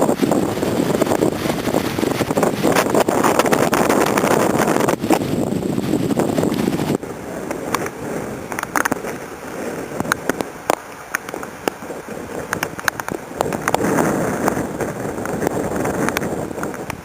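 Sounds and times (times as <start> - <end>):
wind gusting on microphone: 0.0 - 17.0.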